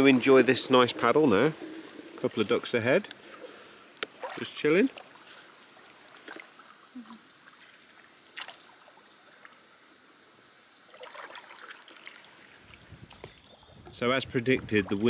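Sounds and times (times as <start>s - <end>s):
paddle strokes: 0.0s - 9.6s, 10.9s - 15.0s
water trickling off paddle: 1.0s - 9.8s, 10.8s - 15.0s.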